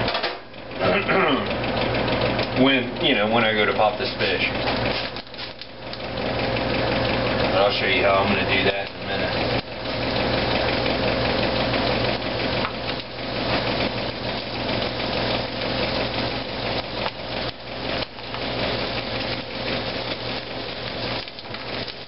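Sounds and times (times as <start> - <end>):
food sizzling in hot oil: 4.2 - 22.0.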